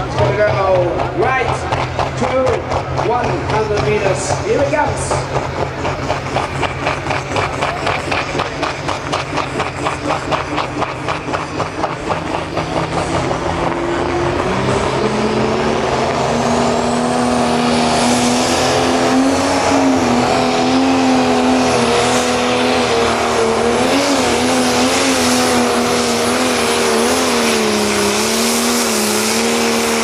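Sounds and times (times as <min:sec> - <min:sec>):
diesel engine revving hard: 0:00.0 - 0:30.0.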